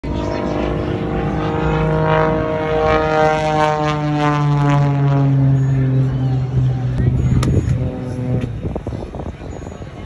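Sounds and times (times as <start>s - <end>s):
small plane engine and propeller: 0.0s - 10.0s.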